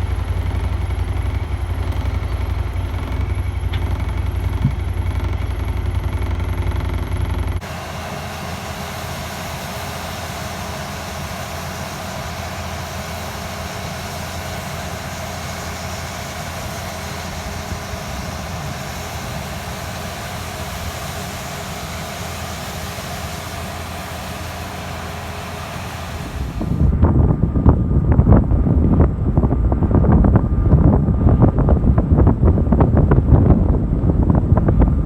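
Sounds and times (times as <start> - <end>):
combine harvester droning: 0.0 - 35.0.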